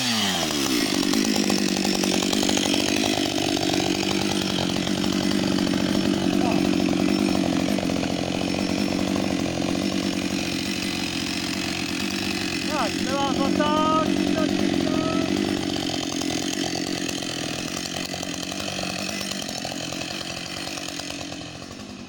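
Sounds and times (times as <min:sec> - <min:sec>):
chainsaw idling: 0:00.0 - 0:22.0.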